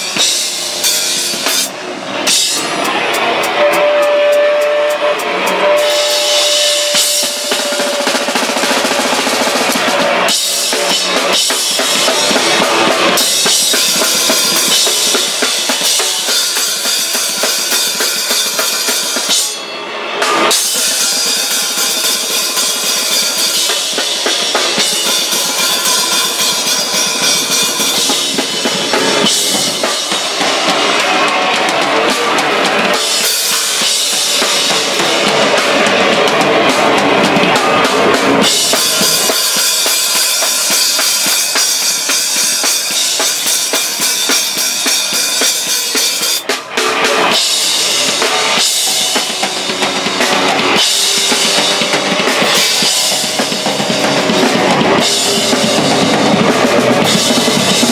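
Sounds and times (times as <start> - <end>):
crashing cymbals: 0.0 - 57.9
live rock band playing: 0.0 - 57.9.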